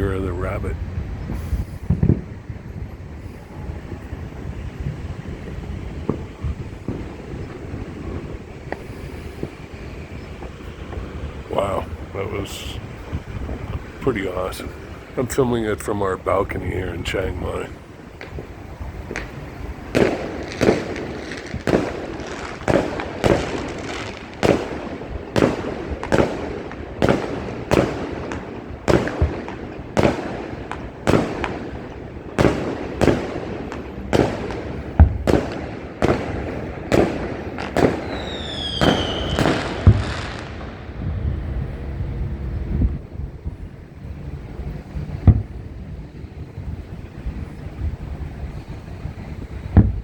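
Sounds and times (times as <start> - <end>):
fireworks bursting: 0.0 - 50.0
whistling firework: 0.0 - 50.0.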